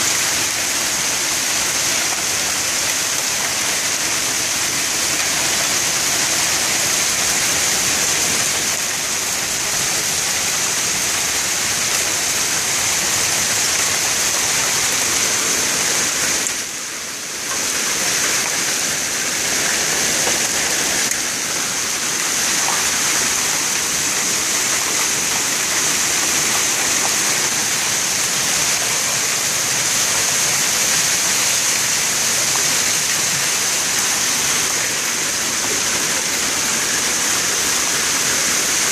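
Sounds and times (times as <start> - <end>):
hail and rain pelting down: 0.0 - 38.9.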